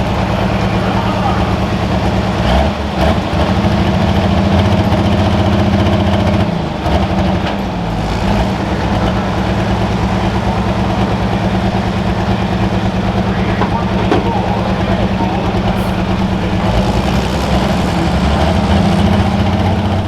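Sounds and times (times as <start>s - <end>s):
diesel engine running low speed: 0.0s - 20.0s.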